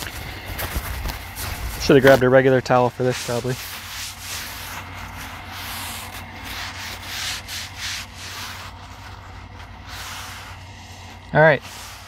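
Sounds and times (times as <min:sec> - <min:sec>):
paper towels wiping metal griddle: 0:01.4 - 0:12.0.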